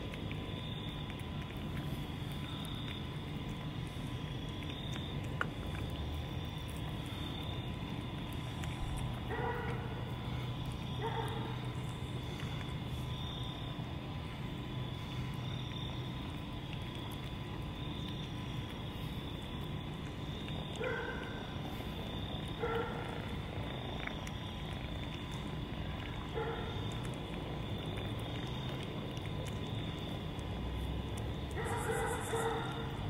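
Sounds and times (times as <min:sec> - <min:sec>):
kitten eating: 0:00.0 - 0:33.0.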